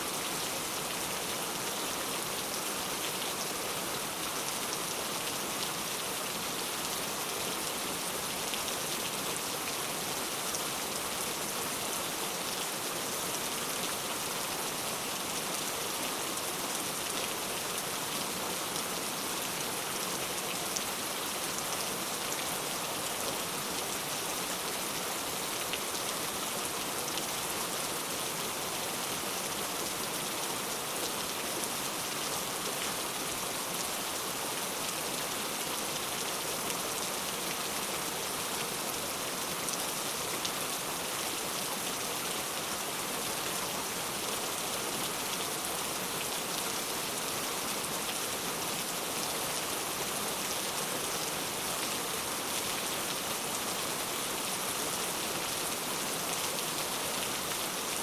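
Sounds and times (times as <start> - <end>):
heavy rain on a surface: 0.0 - 58.0.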